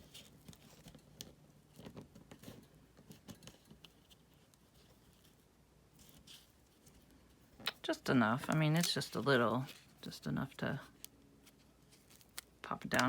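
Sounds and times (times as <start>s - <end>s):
paper rustling and folding: 0.0s - 13.0s.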